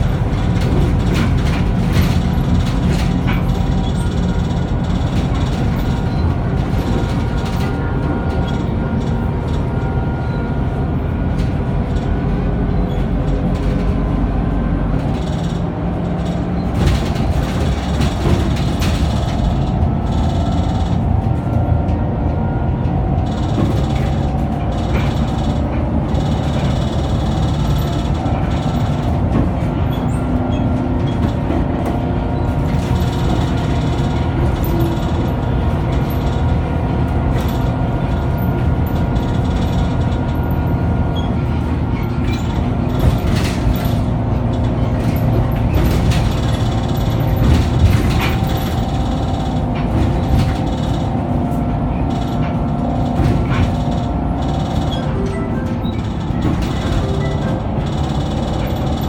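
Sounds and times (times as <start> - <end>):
knocks and rattles: 0.0 - 9.9, 11.3 - 22.0, 22.9 - 59.0
bus engine drone: 0.0 - 59.0.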